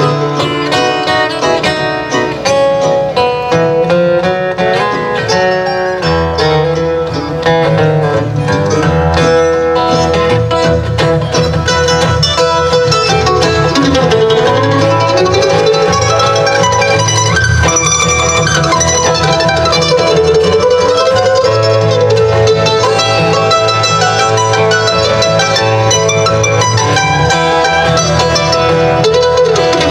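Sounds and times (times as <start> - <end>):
acoustic guitars picking: 0.0 - 29.9
mandolin picking: 0.0 - 29.9.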